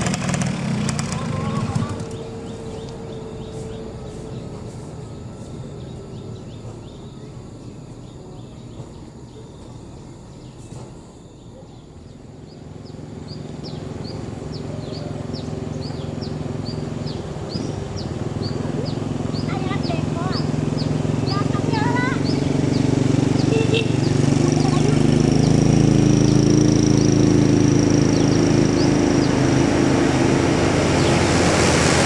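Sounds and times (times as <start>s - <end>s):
truck engine rumble: 0.0s - 32.0s
bird chirping: 1.2s - 30.3s.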